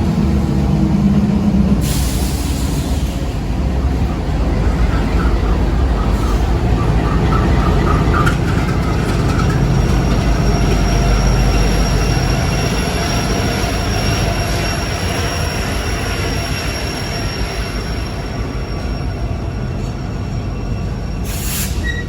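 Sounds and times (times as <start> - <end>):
freight train rumbling on rails: 0.0 - 22.0
high-pitched wheel squeal: 3.9 - 22.0.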